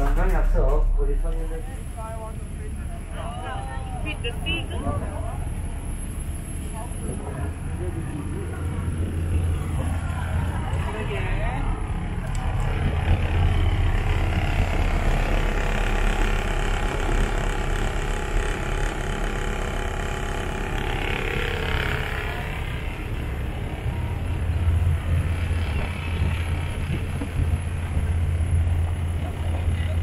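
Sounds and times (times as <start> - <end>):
boat engine droning: 0.0 - 30.0.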